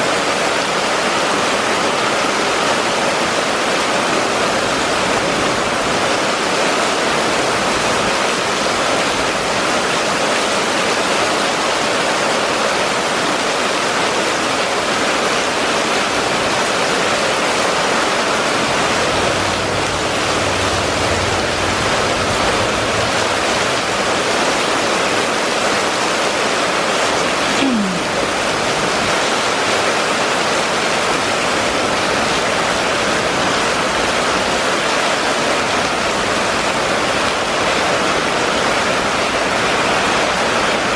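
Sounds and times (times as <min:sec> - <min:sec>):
heavy rain on wet asphalt: 0:00.0 - 0:40.9.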